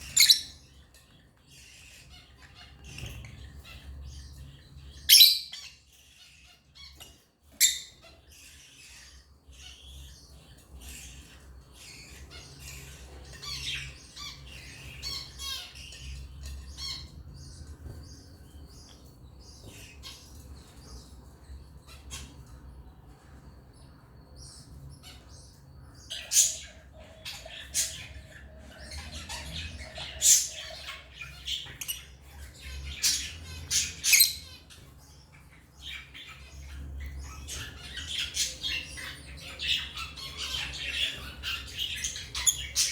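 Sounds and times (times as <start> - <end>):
lovebirds chattering: 0.0 - 42.9.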